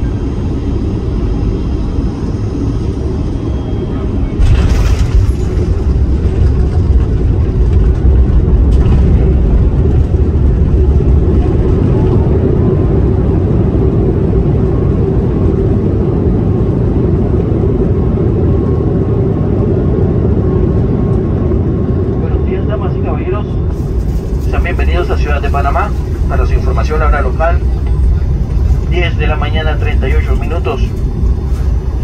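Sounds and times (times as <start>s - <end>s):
aircraft cabin low rumble: 0.0s - 32.0s.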